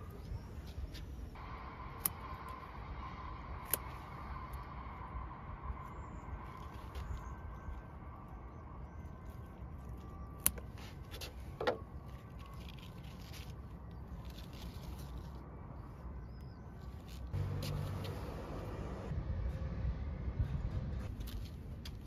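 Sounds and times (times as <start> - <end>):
low engine hum: 0.0 - 10.4, 13.7 - 22.0
distant traffic rumble: 0.0 - 22.0.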